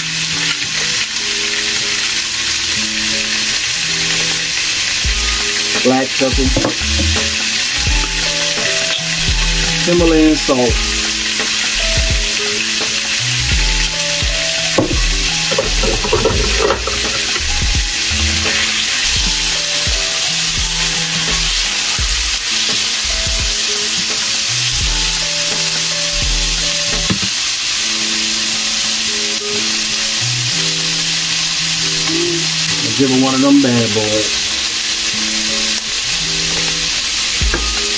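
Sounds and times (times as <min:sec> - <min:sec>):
steak sizzling in a pan: 0:00.0 - 0:37.9
background music with bass: 0:02.5 - 0:27.3, 0:29.8 - 0:37.9.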